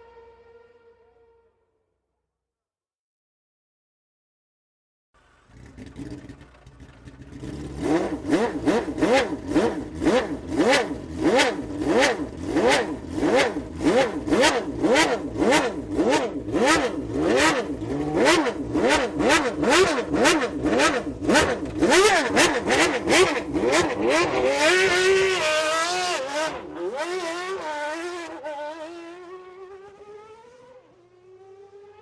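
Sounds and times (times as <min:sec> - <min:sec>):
car engine revving: 0:05.2 - 0:32.0.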